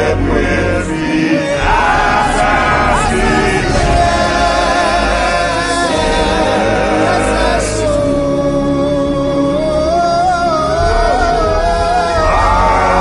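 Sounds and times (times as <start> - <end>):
gospel choir singing: 0.0 - 13.0
instrumental backing with bass: 0.0 - 13.0.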